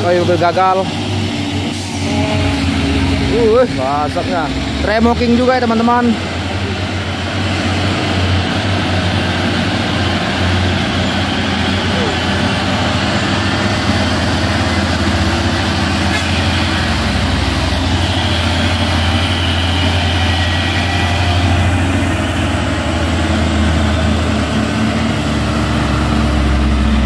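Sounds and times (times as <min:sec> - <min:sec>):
truck diesel engine drone: 0:00.0 - 0:27.0.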